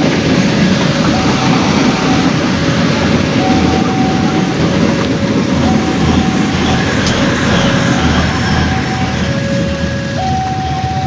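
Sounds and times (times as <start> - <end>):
train wheels rumbling on rail: 0.0 - 11.0
two-note alternating tone: 0.8 - 11.0.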